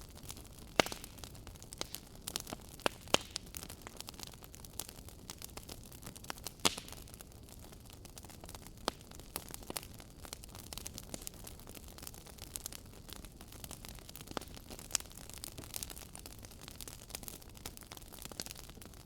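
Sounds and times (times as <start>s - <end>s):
fire snaps: 0.0s - 19.0s
wood fire crackling: 0.0s - 19.0s.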